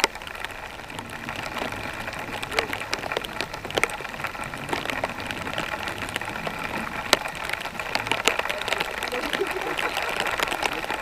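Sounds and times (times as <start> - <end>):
raindrops tapping close by: 0.0 - 11.0
steady rain: 0.0 - 11.0.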